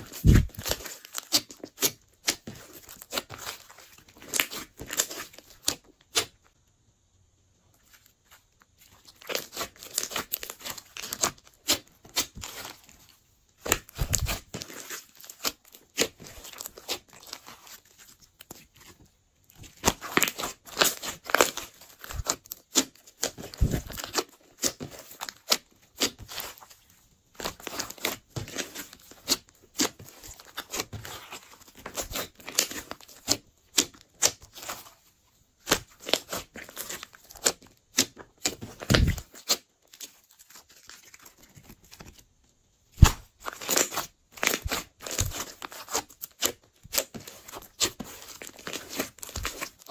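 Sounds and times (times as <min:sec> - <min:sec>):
hands squishing slime: 0:00.0 - 0:06.4, 0:07.8 - 0:42.2, 0:43.0 - 0:49.9.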